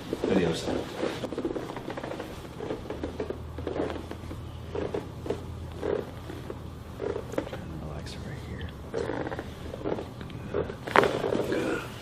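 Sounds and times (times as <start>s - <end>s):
clothing and padding rustling: 0.0s - 12.0s
low steady hum: 0.0s - 12.0s.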